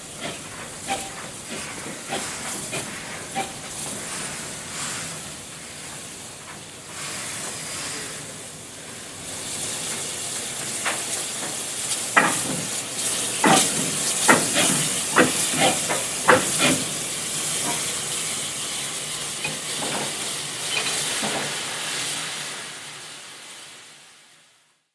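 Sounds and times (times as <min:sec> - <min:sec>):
steam locomotives moving: 0:00.0 - 0:24.6
steam hissing: 0:00.0 - 0:24.9.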